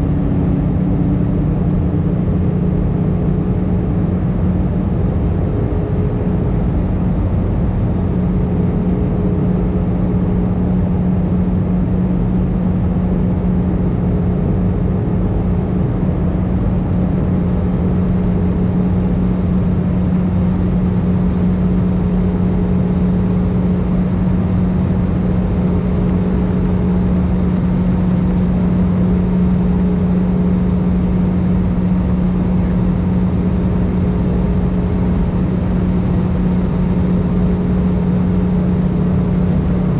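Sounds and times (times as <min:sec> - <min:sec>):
constant low hum: 0:00.0 - 0:39.9
jet engines droning: 0:00.0 - 0:39.9.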